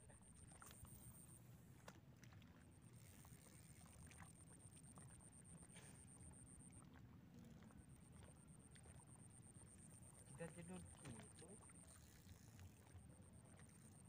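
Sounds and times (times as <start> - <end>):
faint ticks: 0.6 - 14.0.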